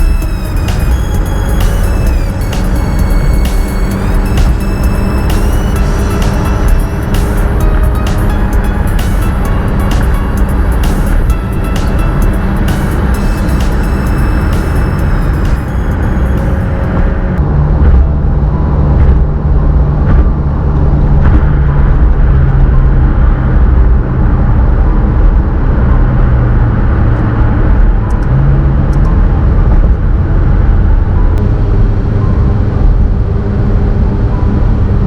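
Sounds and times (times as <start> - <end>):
car engine running: 0.0 - 35.0
road and tyre noise: 0.0 - 35.0.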